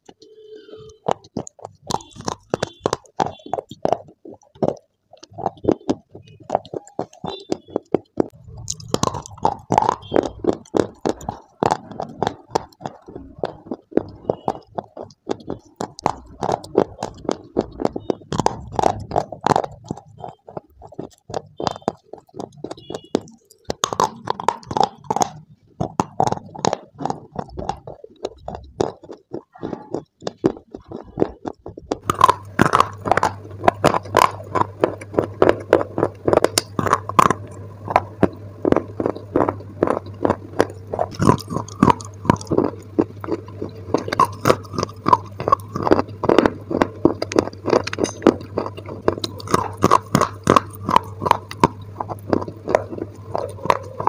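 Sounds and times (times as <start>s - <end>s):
clay being chewed: 0.0s - 54.0s.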